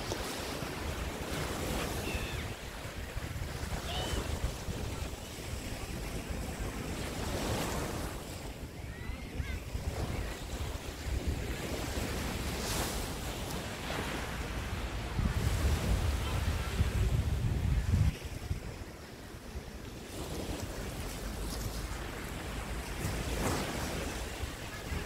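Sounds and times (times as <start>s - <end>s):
small waves breaking on beach: 0.0s - 25.0s
wind buffeting microphone: 0.0s - 25.0s.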